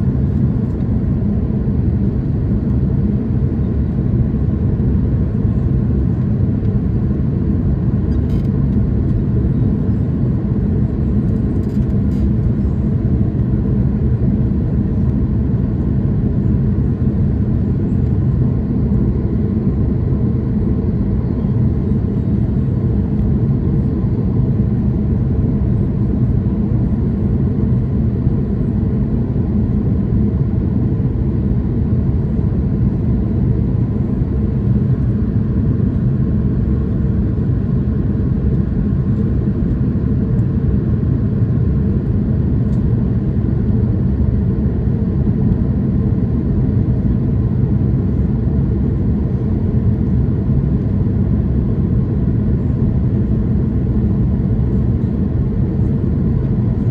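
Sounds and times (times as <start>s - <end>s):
jet airliner cabin rumble: 0.0s - 56.9s.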